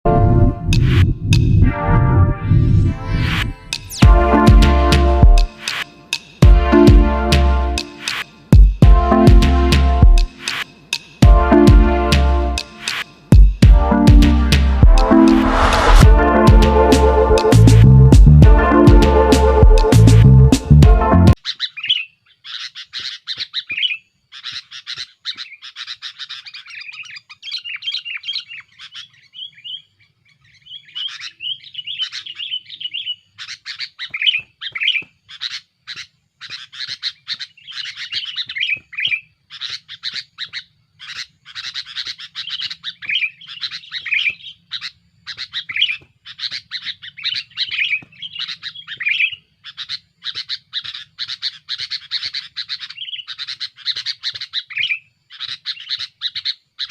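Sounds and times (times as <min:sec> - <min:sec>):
bird chirping song: 0:03.1 - 0:56.9.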